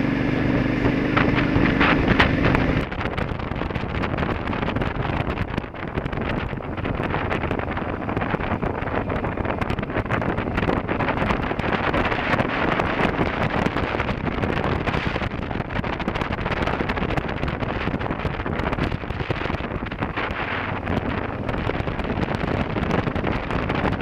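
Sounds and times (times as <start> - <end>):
motorcycle engine and tyre noise: 0.0 - 24.0
wind rushing on microphone: 0.0 - 24.0.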